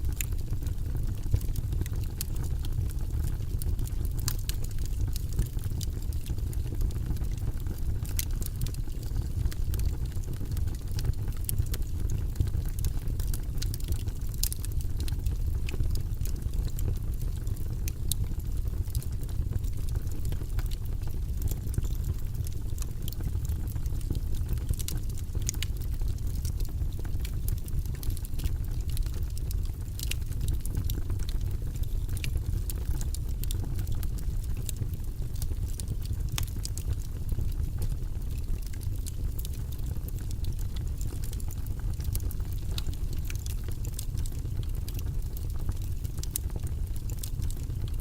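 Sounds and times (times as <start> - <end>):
low rumble of flames: 0.0 - 48.0
wood fire crackling: 0.0 - 48.0.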